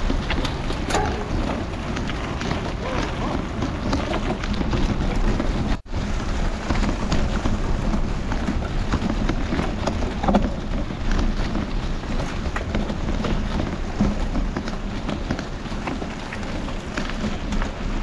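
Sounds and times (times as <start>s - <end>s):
bike tyres crackling on leaves: 0.0s - 18.0s
bikes rattling: 0.0s - 18.0s
wind buffeting microphone: 0.0s - 18.0s.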